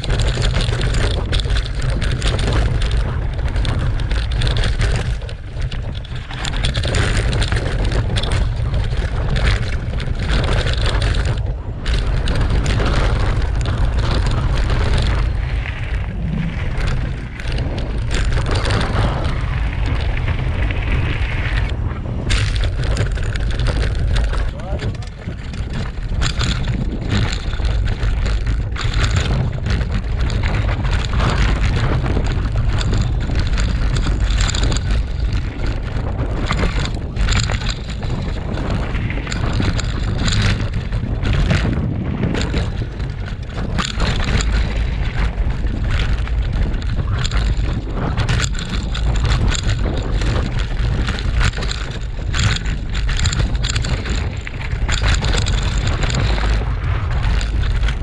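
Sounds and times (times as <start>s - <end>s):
bike clattering over rocks: 0.0s - 58.0s
wind rumble on microphone: 0.0s - 58.0s.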